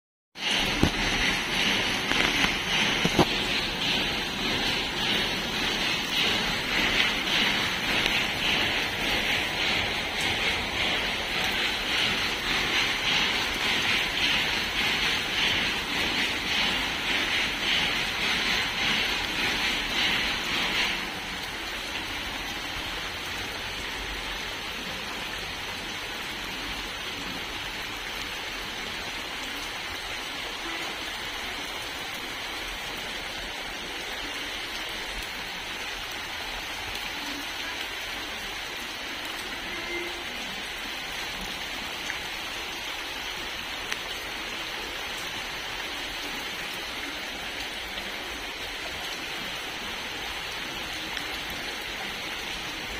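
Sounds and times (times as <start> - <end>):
raindrop ticks: 0.4 - 52.9
steady rain hiss: 0.4 - 52.9.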